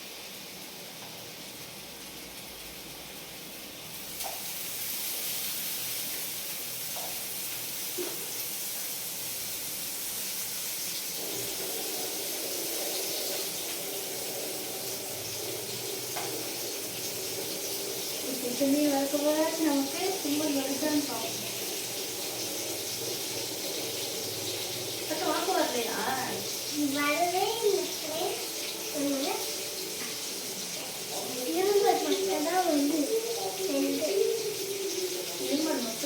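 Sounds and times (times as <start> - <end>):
fish sizzling in hot oil: 0.0 - 36.0.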